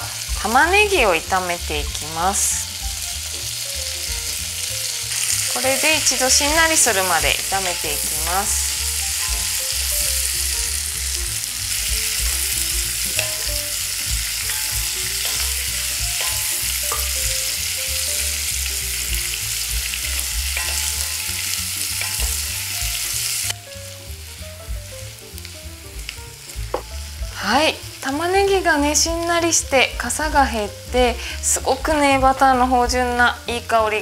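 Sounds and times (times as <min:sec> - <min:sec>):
onions sizzling in butter: 0:00.0 - 0:34.0.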